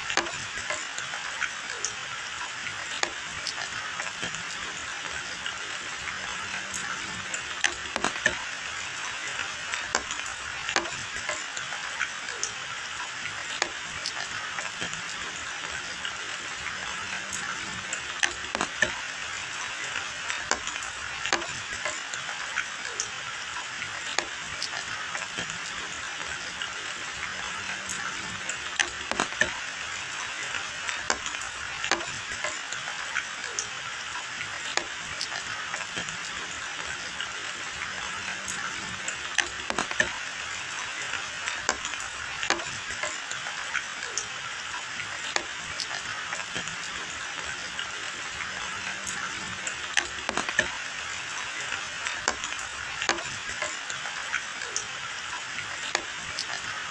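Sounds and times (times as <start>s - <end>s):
raindrops ticking close by: 0.0s - 56.9s
steady rain falling: 0.0s - 56.9s.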